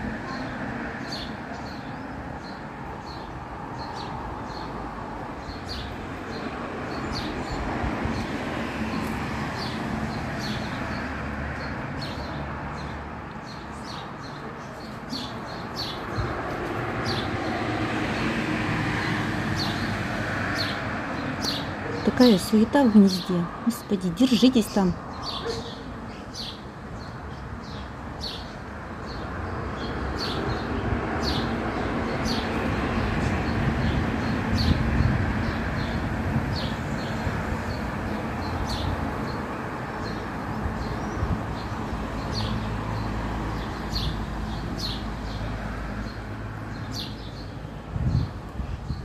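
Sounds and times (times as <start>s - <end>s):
small birds chirping: 0.2s - 18.3s, 18.9s - 49.0s.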